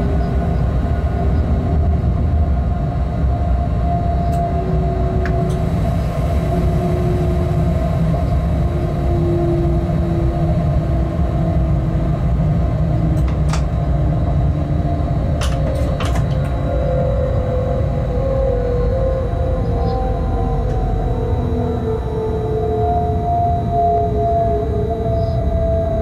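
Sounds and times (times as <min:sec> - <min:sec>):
faint humming tones: 0:00.0 - 0:26.0
freight train locomotive rumble: 0:00.0 - 0:26.0.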